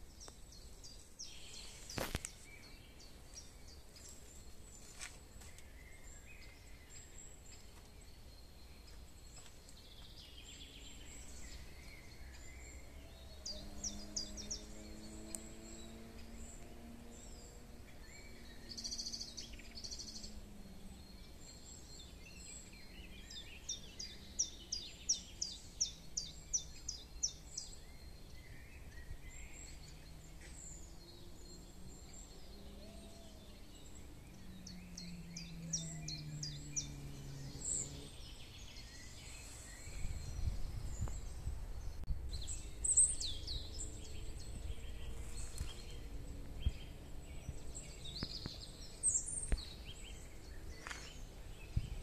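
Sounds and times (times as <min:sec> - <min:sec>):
faint low drone: 0:00.0 - 0:52.0
songbirds singing: 0:00.0 - 0:52.0.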